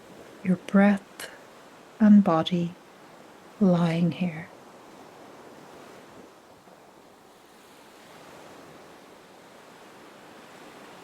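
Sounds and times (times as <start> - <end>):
faint ocean waves washing: 0.0 - 11.0.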